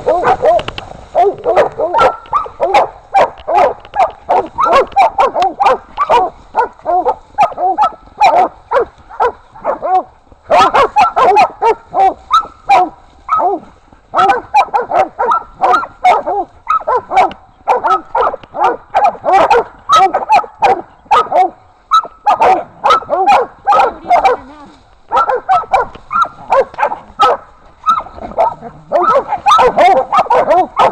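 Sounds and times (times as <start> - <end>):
dogs barking rapidly: 0.0 - 30.9.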